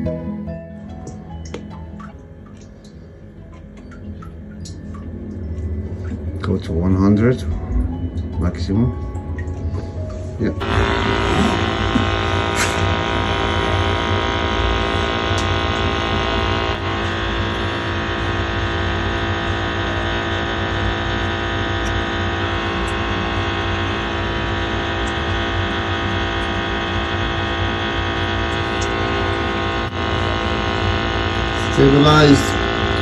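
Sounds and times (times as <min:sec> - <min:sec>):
boiler fan and burner hum: 0:00.0 - 0:33.0.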